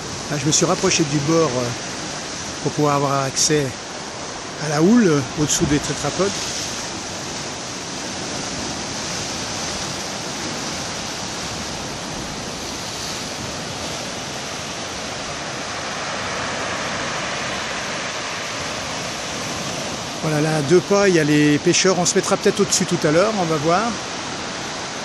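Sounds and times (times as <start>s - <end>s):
surf rushing among concrete blocks: 0.0s - 25.0s.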